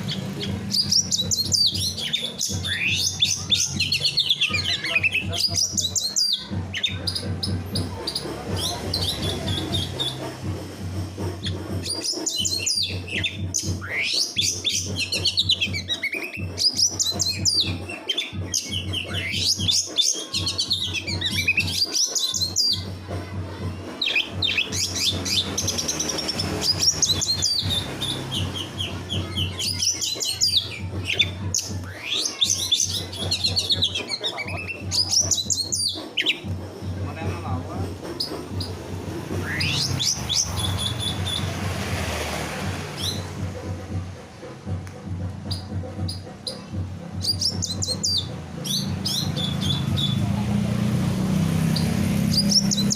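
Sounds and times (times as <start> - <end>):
songbird trilling and whistling: 0.0 - 10.4, 11.4 - 22.9, 24.0 - 36.6, 38.0 - 41.6, 42.9 - 43.4, 45.4 - 50.3, 51.6 - 52.9.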